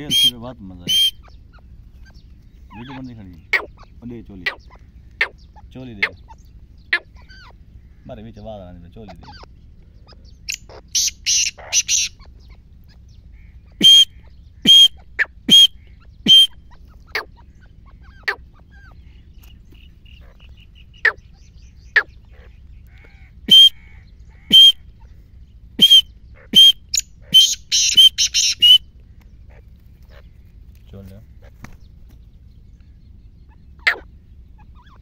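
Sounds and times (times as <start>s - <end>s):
bird shrill calls: 0.0s - 35.0s.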